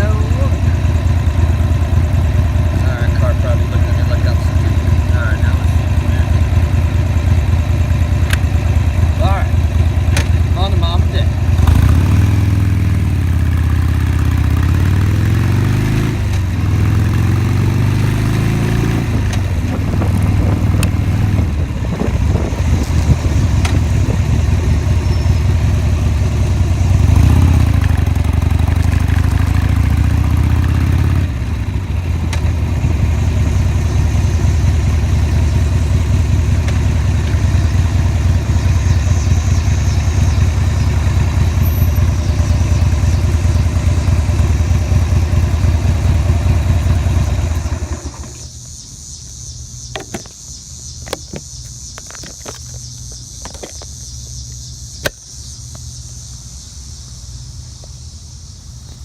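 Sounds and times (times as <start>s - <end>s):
motorcycle engine shifting gears: 0.0s - 48.6s, 49.3s - 56.1s.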